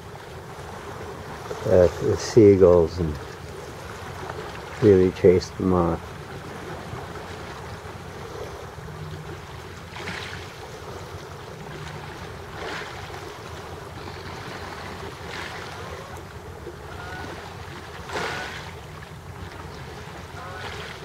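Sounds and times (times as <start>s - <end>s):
waves washing against rocks: 0.0s - 21.0s.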